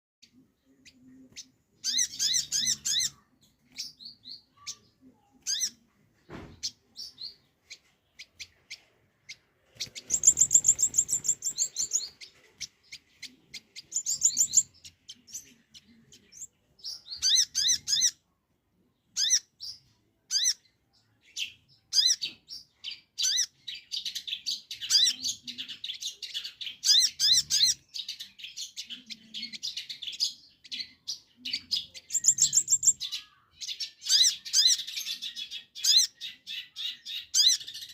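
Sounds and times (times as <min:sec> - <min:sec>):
bird chirping and trilling: 0:00.2 - 0:05.8, 0:06.4 - 0:18.2, 0:19.1 - 0:37.9.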